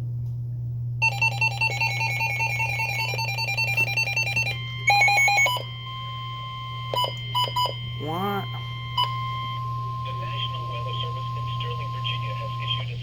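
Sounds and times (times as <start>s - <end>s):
steady electronic tones: 1.0s - 13.0s.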